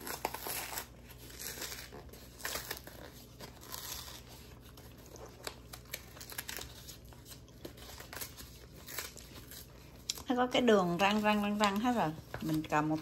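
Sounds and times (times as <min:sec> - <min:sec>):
paper packs tearing and crinkling: 0:00.0 - 0:13.0.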